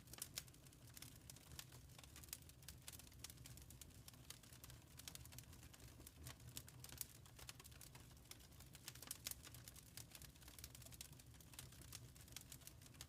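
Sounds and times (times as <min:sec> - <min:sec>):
low fire rumble: 0:00.0 - 0:13.0
wood fire snaps and pops: 0:00.0 - 0:13.0.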